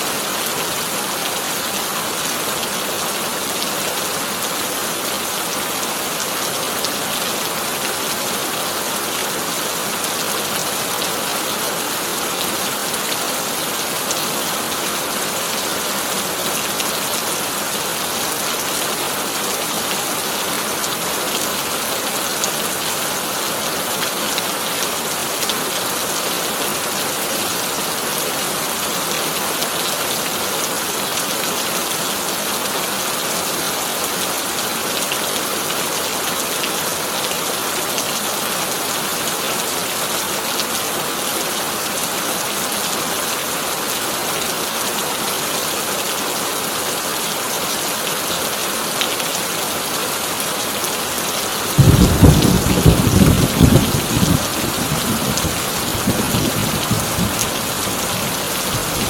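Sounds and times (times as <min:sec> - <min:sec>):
rain on a tin roof: 0:00.0 - 0:59.0.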